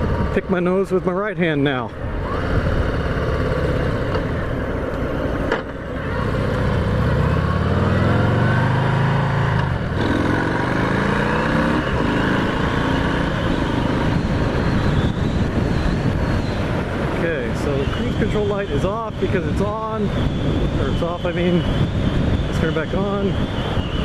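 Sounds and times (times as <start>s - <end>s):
motorcycle accelerating: 0.0s - 24.0s.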